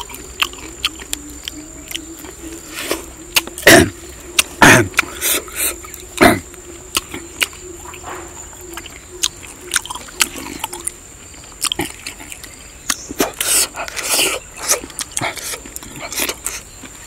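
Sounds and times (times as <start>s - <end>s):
man chewing and slurping: 0.0s - 17.0s.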